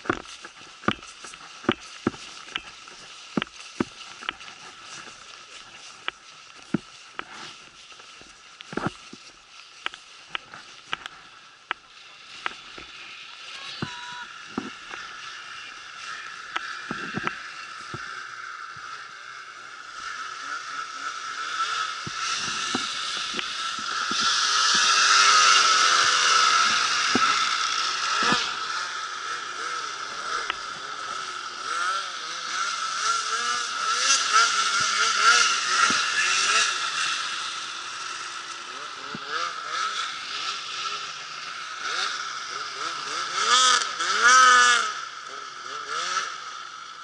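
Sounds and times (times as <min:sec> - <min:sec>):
snowmobile engines revving: 0:00.0 - 0:47.0.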